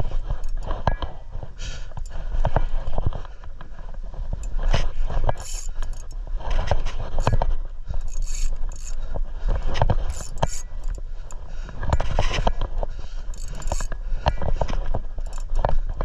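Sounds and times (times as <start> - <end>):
fishing rod and reel handling: 0.0 - 16.0
steady low rumble: 0.0 - 16.0.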